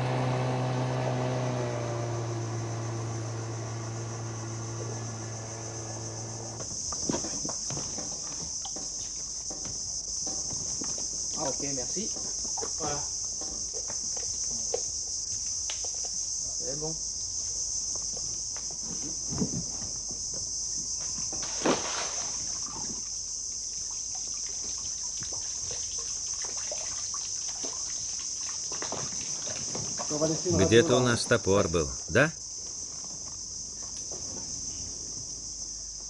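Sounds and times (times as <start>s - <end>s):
insect chorus drone: 0.0s - 36.0s.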